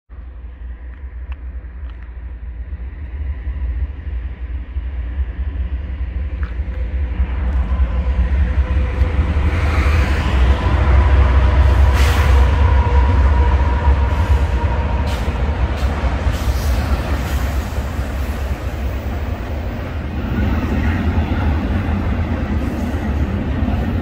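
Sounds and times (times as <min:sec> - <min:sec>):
train rumble: 0:00.1 - 0:24.0.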